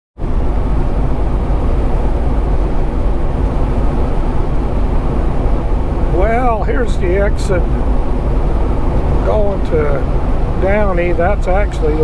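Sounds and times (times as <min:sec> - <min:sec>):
truck engine and road rumble: 0:00.2 - 0:12.0.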